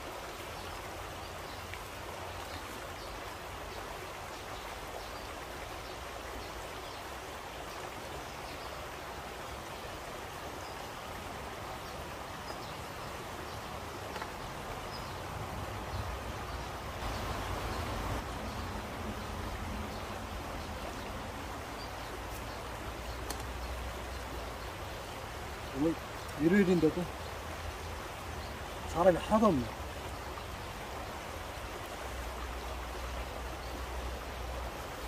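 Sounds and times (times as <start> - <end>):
mountain stream rushing over rocks: 0.0 - 35.0.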